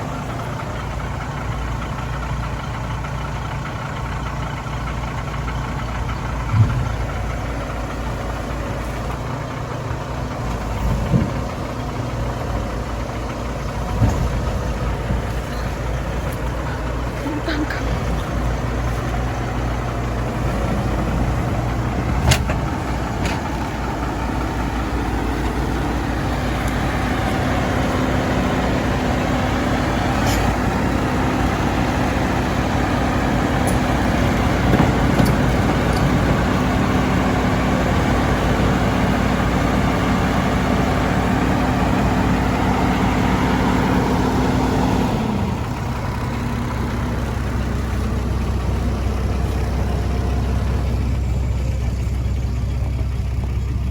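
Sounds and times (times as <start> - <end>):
heavy diesel engine: 0.0 - 53.9.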